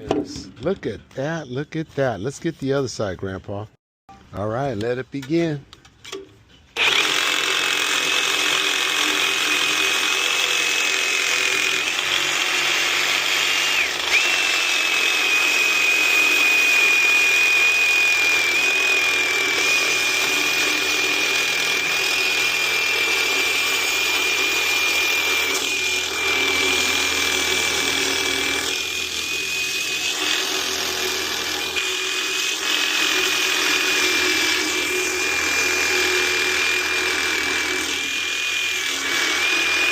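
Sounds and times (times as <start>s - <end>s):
power saw cutting metal: 6.8s - 39.9s.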